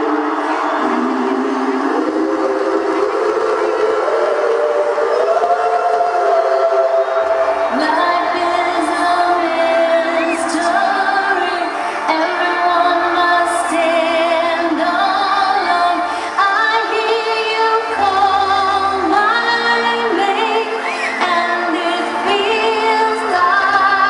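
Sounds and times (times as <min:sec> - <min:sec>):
steady musical accompaniment: 0:00.0 - 0:24.0.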